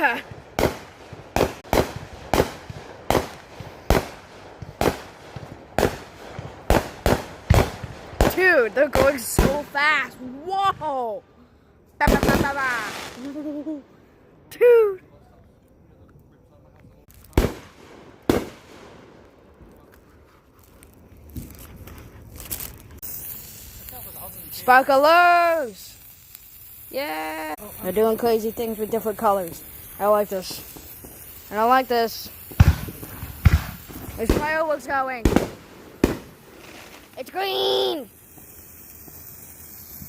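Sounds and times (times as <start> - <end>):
fireworks sharp bangs: 0.0 - 11.1, 12.0 - 13.5, 17.1 - 20.2, 22.8 - 40.0.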